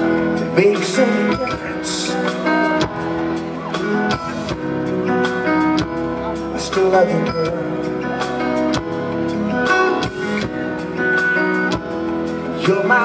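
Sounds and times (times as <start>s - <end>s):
drum kit slow beat: 0.0s - 13.0s.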